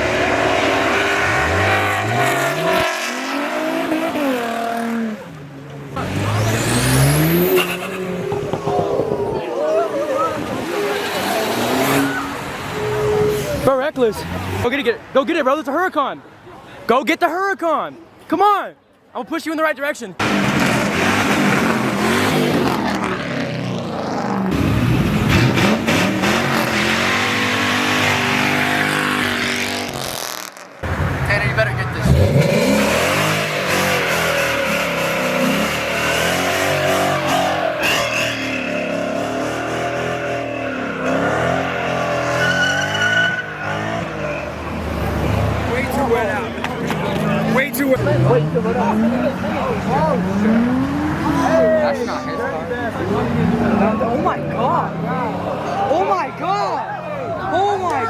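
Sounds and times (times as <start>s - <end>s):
car engines revving: 0.0s - 15.2s, 20.2s - 58.0s.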